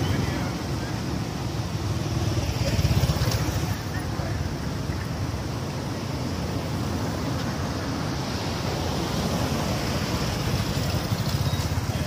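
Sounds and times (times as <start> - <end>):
outdoor rushing noise: 0.0 - 12.0.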